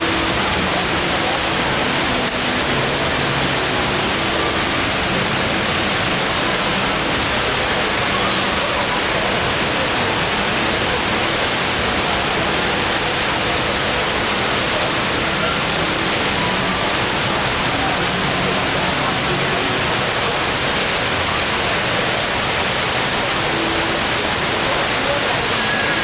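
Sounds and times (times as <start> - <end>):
indoor waterfall pouring: 0.0 - 26.0.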